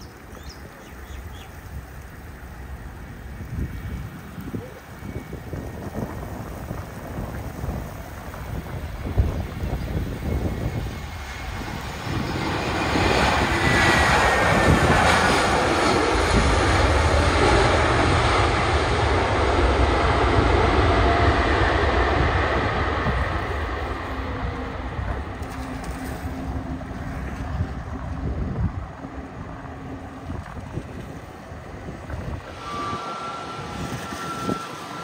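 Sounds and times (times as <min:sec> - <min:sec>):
jet engines reverse thrust: 0:00.0 - 0:35.0.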